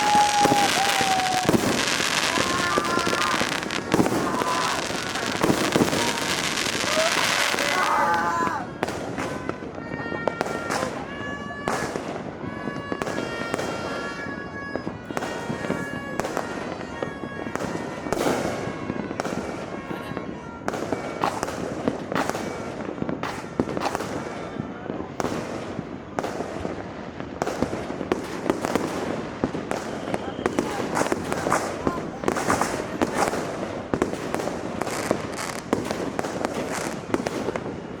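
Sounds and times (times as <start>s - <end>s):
fireworks bangs and crackling: 0.0s - 38.0s
whistling fireworks: 0.0s - 38.0s.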